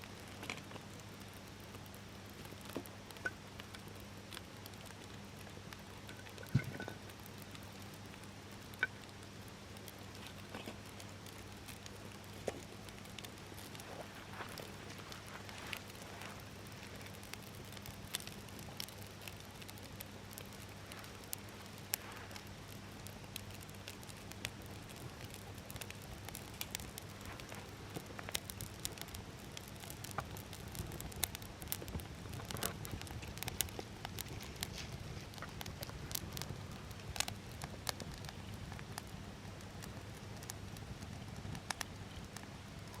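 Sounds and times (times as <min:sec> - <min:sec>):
campfire crackling: 0:00.0 - 0:43.0
low steady hum: 0:00.0 - 0:43.0.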